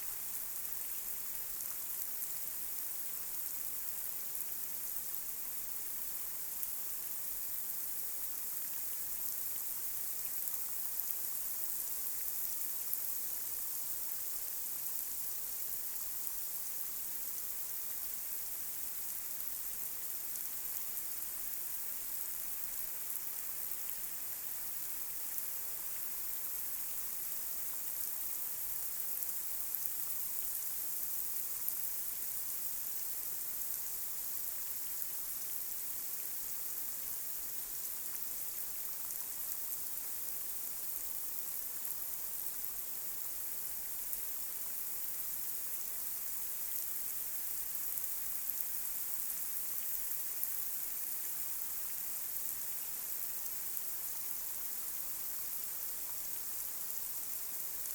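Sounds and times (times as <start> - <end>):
light rain falling: 0.0 - 57.9.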